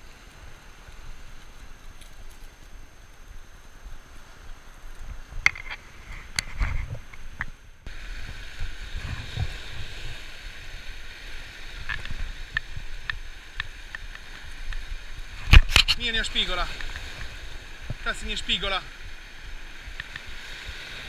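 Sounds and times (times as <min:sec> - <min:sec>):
surf washing over rocks: 0:00.0 - 0:21.0
wind rumble on microphone: 0:00.0 - 0:21.0.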